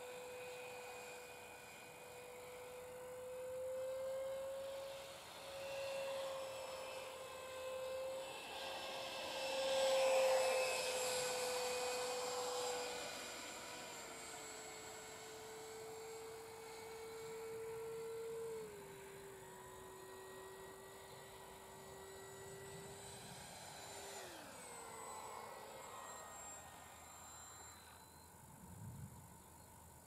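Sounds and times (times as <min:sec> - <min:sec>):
model jet fan whining: 0:00.0 - 0:30.0.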